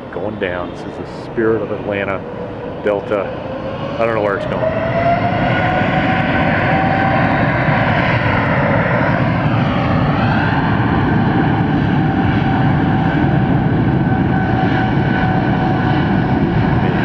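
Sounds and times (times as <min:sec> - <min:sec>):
jet engine noise with whine: 0:00.0 - 0:17.0.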